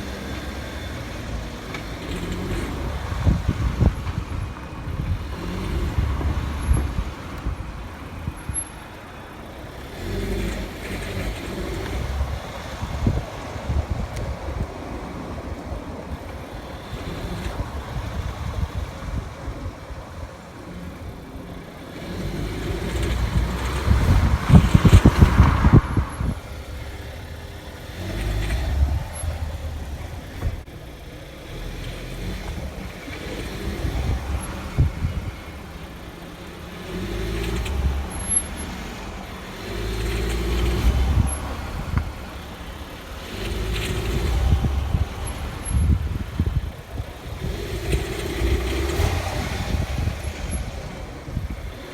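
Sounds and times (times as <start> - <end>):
car engine revving in surges: 0.0 - 51.9.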